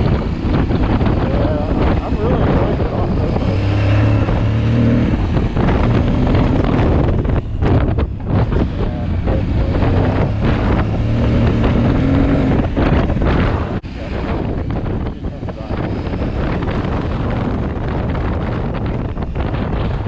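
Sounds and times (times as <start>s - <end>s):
motorcycle engine pulling: 0.0s - 20.0s
wind buffeting microphone: 0.0s - 20.0s.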